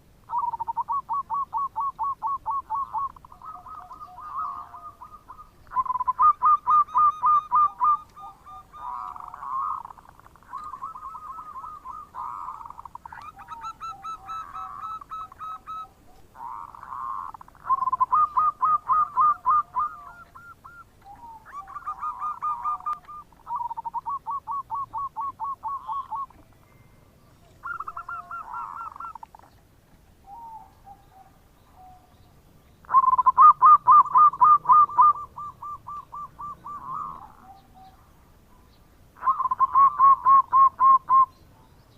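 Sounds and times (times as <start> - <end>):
doves cooing: 0.0 - 29.6, 30.2 - 41.4.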